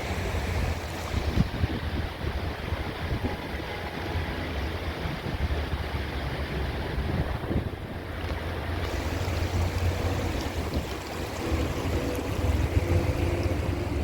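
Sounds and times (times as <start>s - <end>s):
wind buffeting microphone: 0.0s - 3.6s, 4.8s - 14.0s
water noise: 0.0s - 14.0s.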